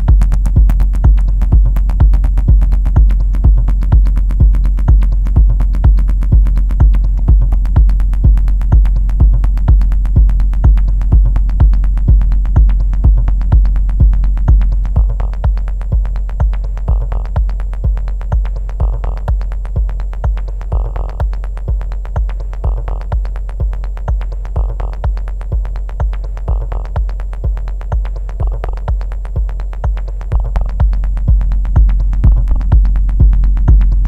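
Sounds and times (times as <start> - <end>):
deep bass drone: 0.0 - 34.0
kick drum beat: 0.0 - 34.0.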